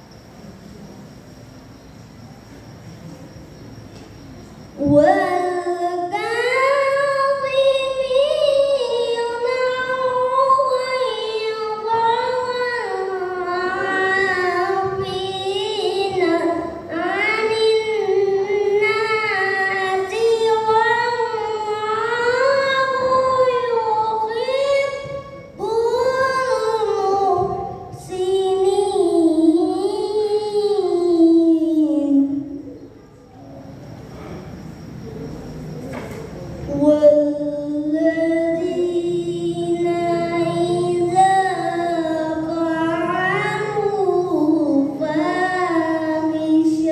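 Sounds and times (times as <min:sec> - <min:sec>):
boy chanting into a microphone: 0:04.7 - 0:32.9, 0:36.6 - 0:46.9.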